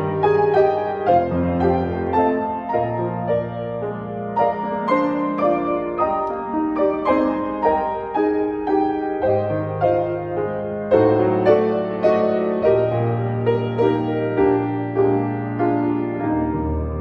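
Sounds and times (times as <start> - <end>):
grand piano playing hymn: 0.0 - 17.0.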